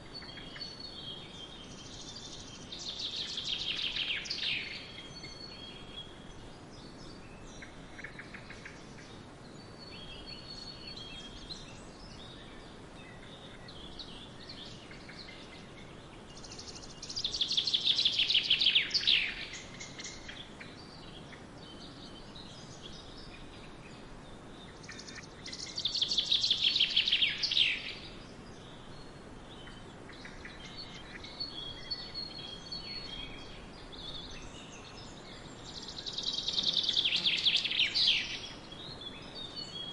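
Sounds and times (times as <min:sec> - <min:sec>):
bird chirps and calls: 0:00.0 - 0:39.9
outdoor background hiss: 0:00.0 - 0:39.9.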